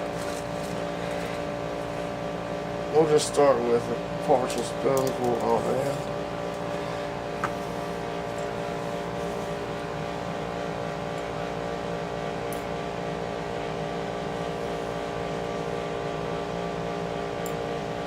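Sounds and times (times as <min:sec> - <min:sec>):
steady droning hum: 0:00.0 - 0:18.0.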